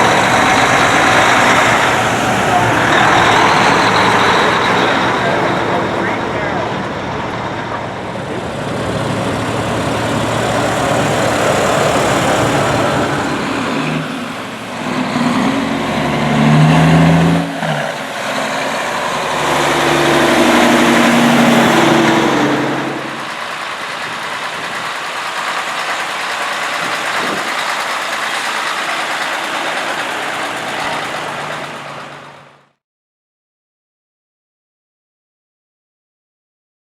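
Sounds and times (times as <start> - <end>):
diesel truck engines: 0.0 - 32.8.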